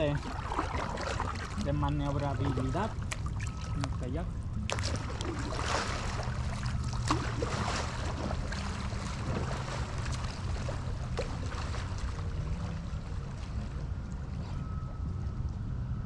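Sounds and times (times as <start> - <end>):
low rumble of wind: 0.0 - 16.0
river water lapping and splashing: 0.0 - 16.0.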